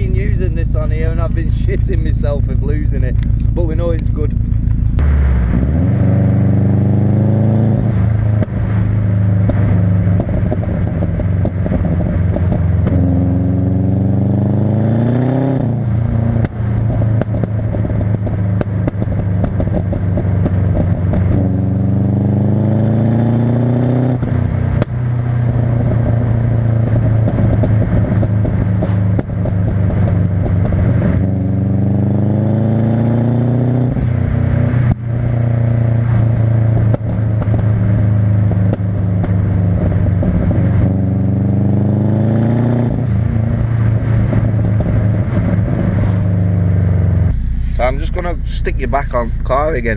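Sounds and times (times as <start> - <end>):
exhaust pops and bangs: 0.0 - 6.8, 7.7 - 14.1, 15.6 - 22.0, 24.1 - 32.0, 33.8 - 41.4, 42.8 - 46.4, 47.2 - 49.9
car engine revving: 0.0 - 49.9.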